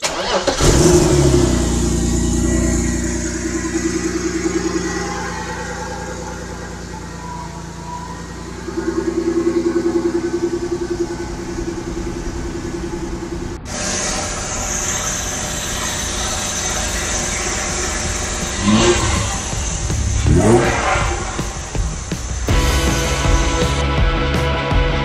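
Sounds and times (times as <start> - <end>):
car engine revving: 0.0 - 24.2.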